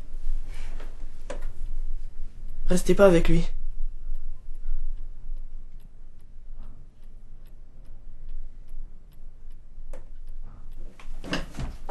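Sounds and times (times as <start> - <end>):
clock ticking: 1.3 - 11.9.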